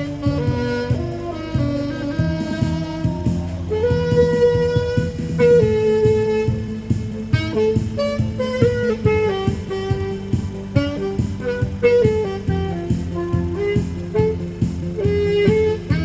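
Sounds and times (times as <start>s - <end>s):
instrumental accompaniment with beat: 0.0s - 16.0s
saxophone melody: 0.0s - 16.0s.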